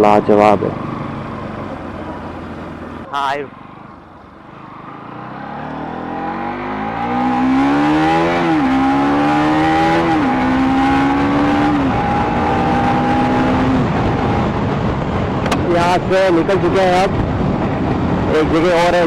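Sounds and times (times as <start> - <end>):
engine accelerating through gears: 0.0 - 19.0.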